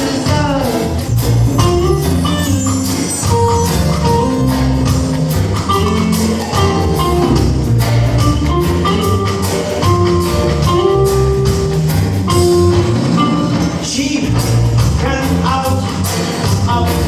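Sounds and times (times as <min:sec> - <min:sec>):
held melodic notes: 0:00.0 - 0:16.2
bass line: 0:00.0 - 0:17.0
light percussion beat: 0:00.0 - 0:17.0.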